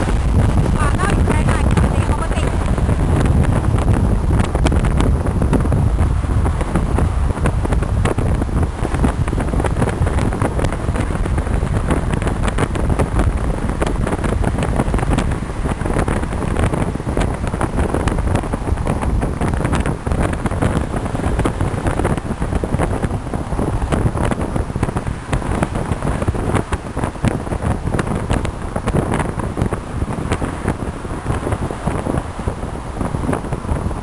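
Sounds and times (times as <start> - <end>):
low rumble and crackling: 0.0 - 34.0
road and tyre noise: 0.0 - 34.0
wind buffeting microphone: 0.0 - 34.0.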